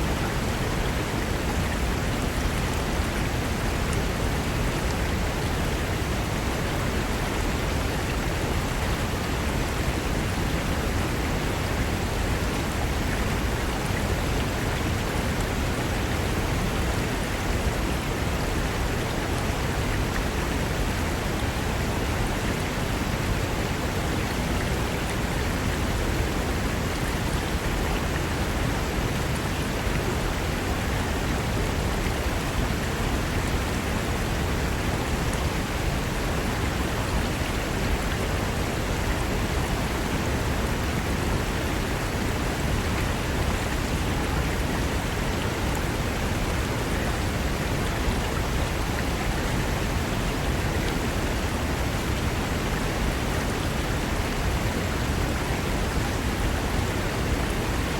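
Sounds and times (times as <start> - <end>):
river rushing over rocks: 0.0 - 57.9.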